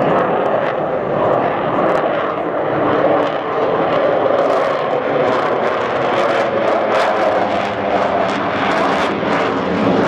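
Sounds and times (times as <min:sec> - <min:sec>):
jet engines roaring overhead: 0:00.0 - 0:10.0.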